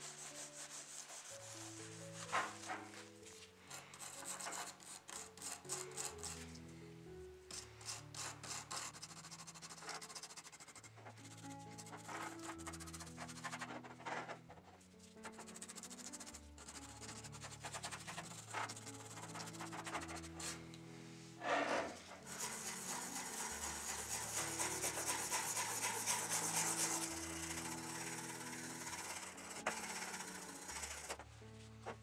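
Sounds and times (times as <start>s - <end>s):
small brush scrubbing: 0.0s - 6.5s, 7.5s - 14.4s, 15.0s - 20.6s, 21.4s - 31.2s.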